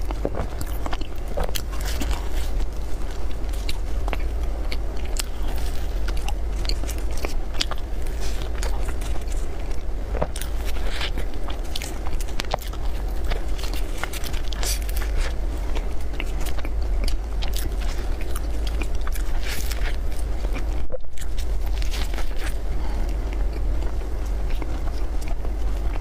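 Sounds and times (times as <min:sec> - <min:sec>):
chewing cream puffs: 0:00.0 - 0:26.0
steady low hum: 0:00.0 - 0:26.0.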